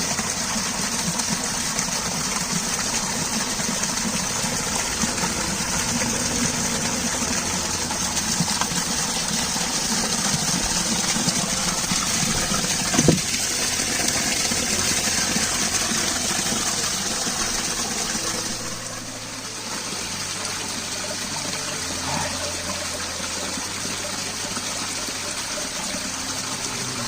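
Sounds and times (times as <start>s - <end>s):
rushing water-like noise: 0.0s - 27.0s.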